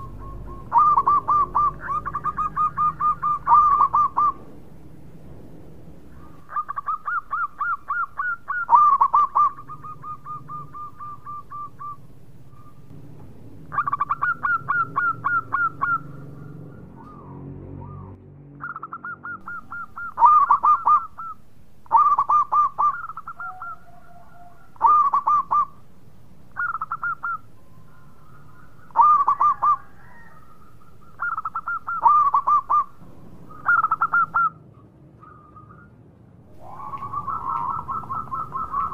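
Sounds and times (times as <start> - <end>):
dove trilling coos: 0.0 - 38.9.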